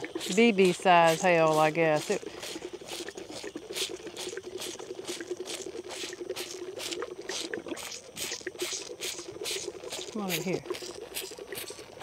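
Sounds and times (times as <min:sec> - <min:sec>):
calf sucking and slurping: 0:00.0 - 0:12.0.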